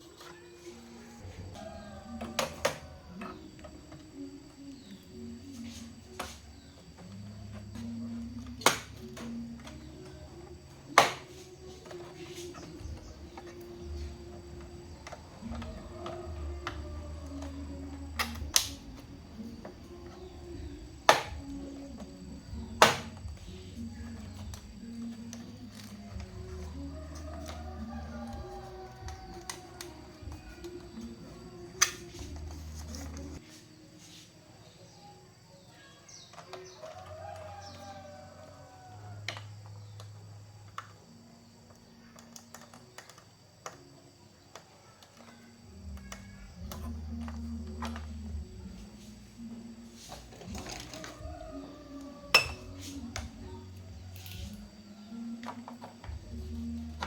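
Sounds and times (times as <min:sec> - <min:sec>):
quiet background music: 0:00.0 - 0:57.0.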